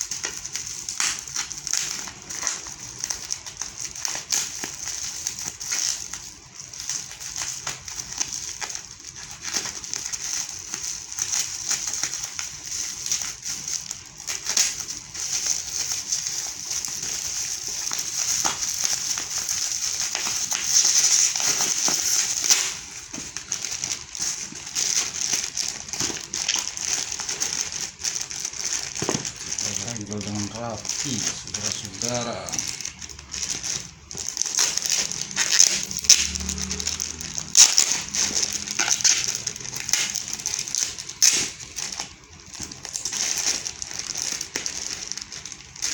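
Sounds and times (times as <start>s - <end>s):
plastic packaging crinkling: 0.0s - 45.9s.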